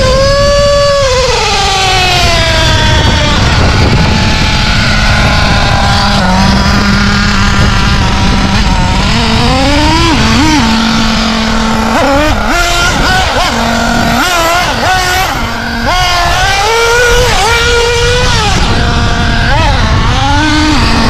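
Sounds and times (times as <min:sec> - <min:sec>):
rc buggy engine idling and revving: 0:00.0 - 0:21.0.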